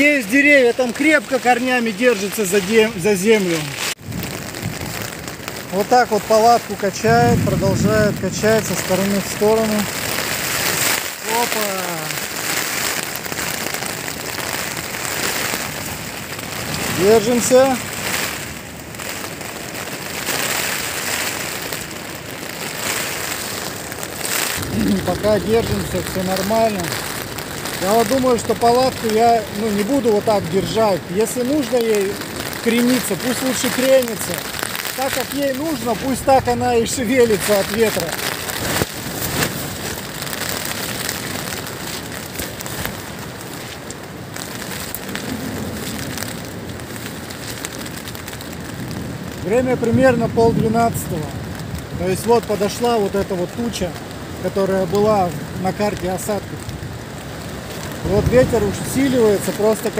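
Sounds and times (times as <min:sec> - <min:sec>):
gusting wind: 0:00.0 - 0:59.9
rain on a nylon tent: 0:00.0 - 0:59.9.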